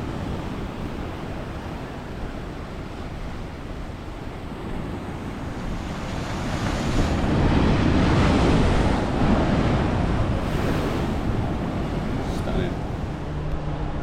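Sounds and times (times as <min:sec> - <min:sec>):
sea waves breaking on rocks: 0:00.0 - 0:13.4
wind buffeting microphone: 0:00.0 - 0:14.0.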